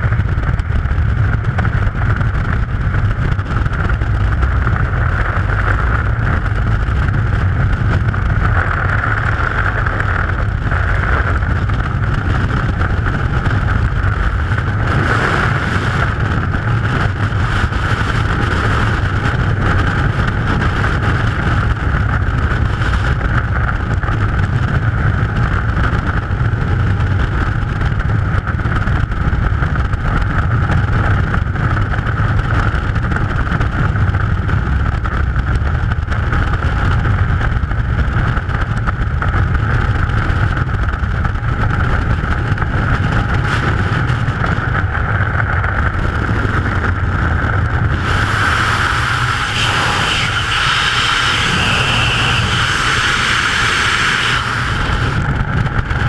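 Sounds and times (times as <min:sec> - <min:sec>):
loud wind noise: 0:00.0 - 0:56.0.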